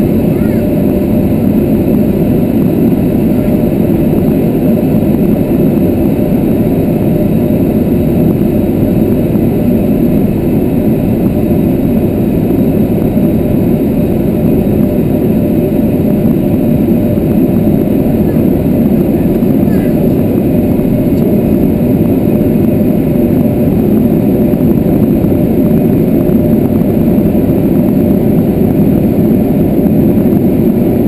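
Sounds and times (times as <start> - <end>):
airplane engine and airflow noise: 0.0 - 31.0.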